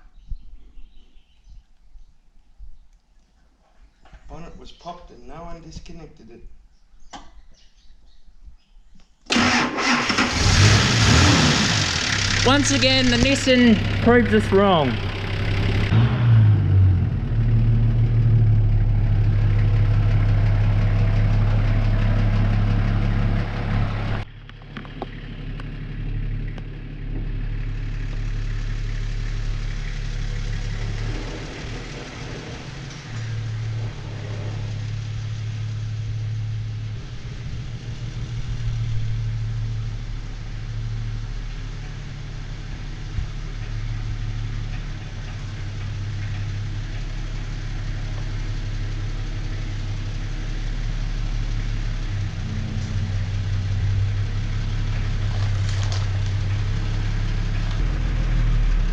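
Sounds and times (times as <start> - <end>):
vehicle engine idling: 9.4 - 58.9.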